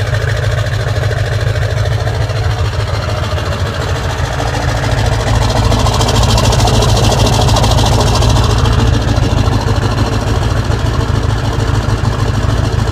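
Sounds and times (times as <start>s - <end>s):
diesel engine idling with clatter: 0.0s - 12.9s.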